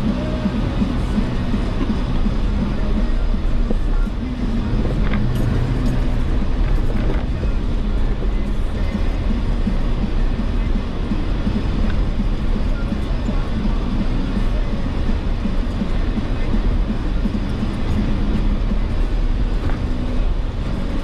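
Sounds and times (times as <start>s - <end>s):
engine and drivetrain rumble: 0.0s - 21.0s.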